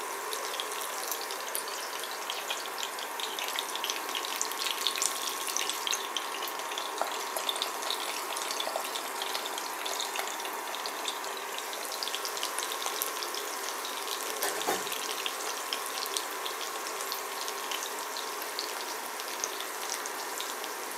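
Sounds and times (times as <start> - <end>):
food sizzling in frying oil: 0.0 - 20.9.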